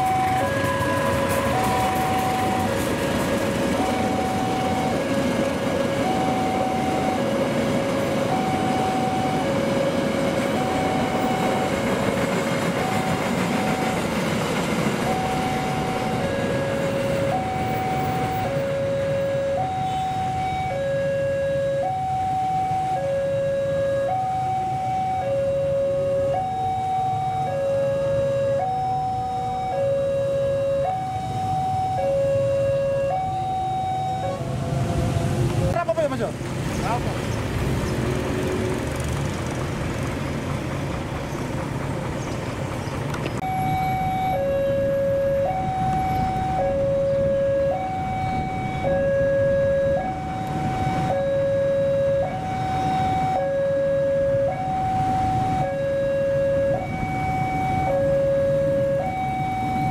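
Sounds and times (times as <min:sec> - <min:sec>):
two-tone electronic warning alarm: 0:00.0 - 0:03.1, 0:03.7 - 0:35.4, 0:43.4 - 0:59.9.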